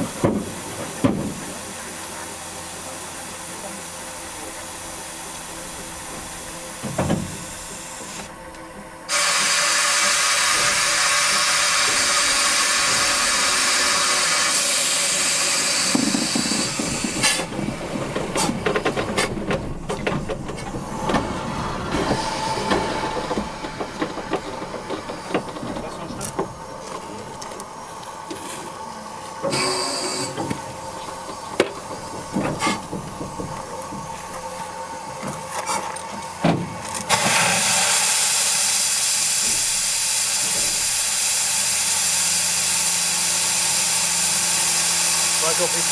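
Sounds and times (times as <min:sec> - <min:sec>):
steam locomotive venting steam: 0:00.0 - 0:45.9.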